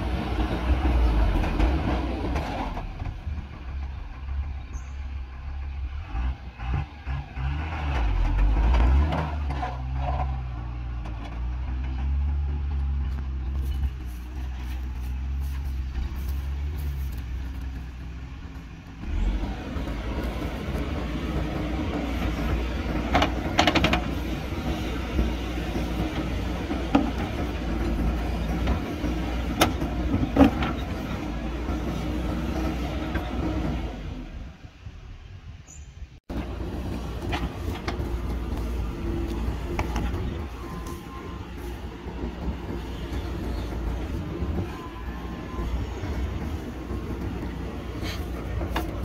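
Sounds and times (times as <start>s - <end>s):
backhoe engine working: 0.0s - 35.4s, 36.2s - 49.0s
diesel engines droning: 0.0s - 49.0s.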